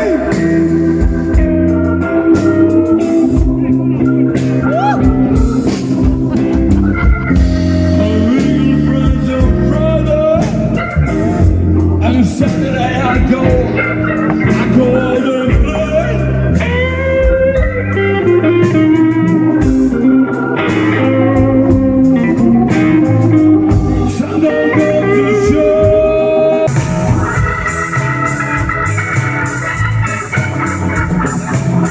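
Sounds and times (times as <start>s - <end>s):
drums: 0.0s - 31.9s
electric guitar lines: 0.0s - 31.9s
steady bass line: 0.0s - 31.9s.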